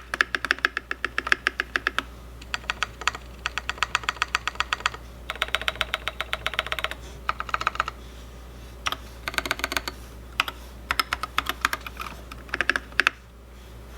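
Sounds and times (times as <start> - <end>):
mechanical keyboard typing: 0.0 - 8.0, 8.8 - 13.2.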